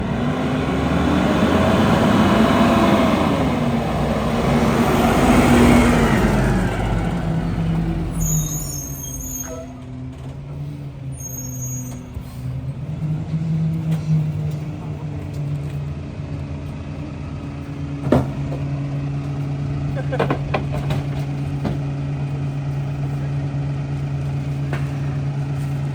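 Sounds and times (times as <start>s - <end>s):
diesel engine revving and idling: 0.0s - 11.2s, 12.0s - 25.9s.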